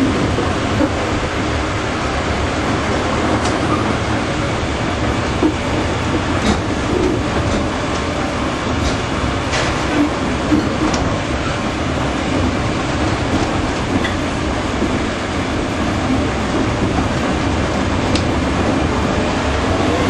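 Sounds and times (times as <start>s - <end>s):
train engine and wheels rumbling: 0.0s - 20.0s
wheels clicking on rail joints: 2.6s - 20.0s.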